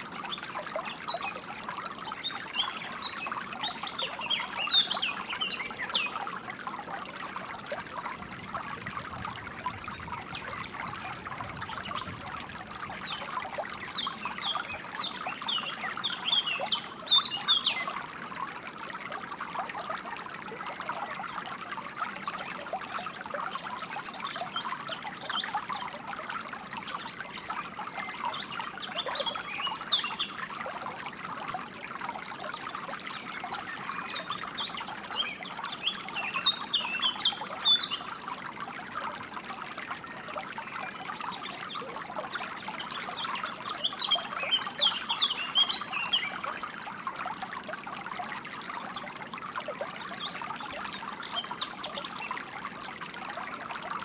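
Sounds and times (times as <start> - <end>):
water trickling over stones: 0.0 - 54.0.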